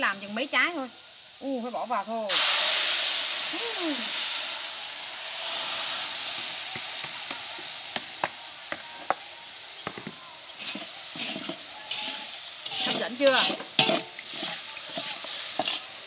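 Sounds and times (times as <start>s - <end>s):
sauce sizzling in hot oil: 0.0s - 16.0s.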